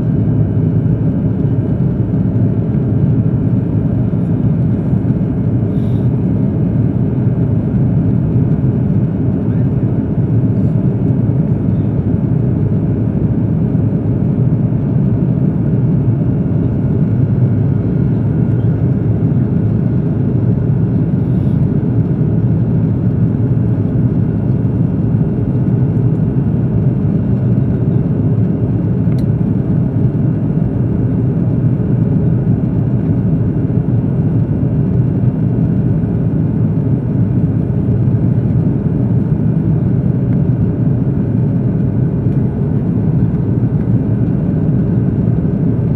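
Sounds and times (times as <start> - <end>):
airplane engine cabin drone: 0.0 - 45.9.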